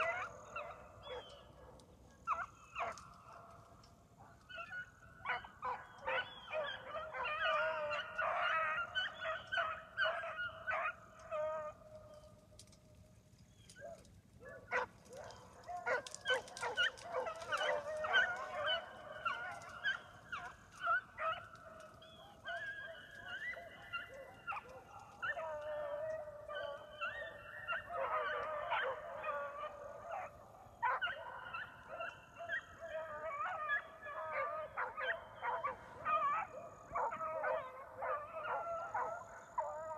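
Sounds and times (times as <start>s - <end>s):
beagles baying: 0.0s - 39.9s.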